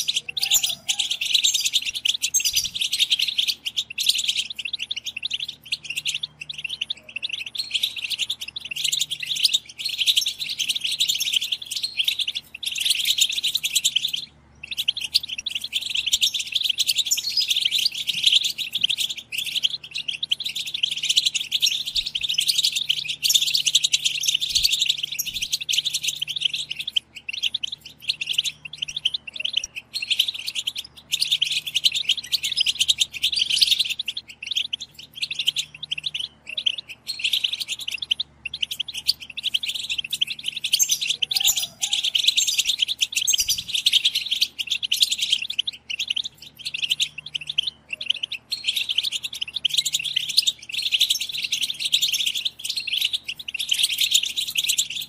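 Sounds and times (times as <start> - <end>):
finches twittering: 0.0 - 55.0.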